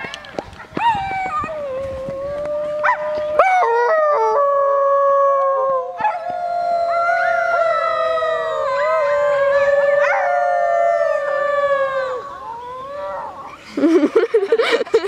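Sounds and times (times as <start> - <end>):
children howling: 0.1 - 13.6
people howling like wolves: 0.7 - 13.6.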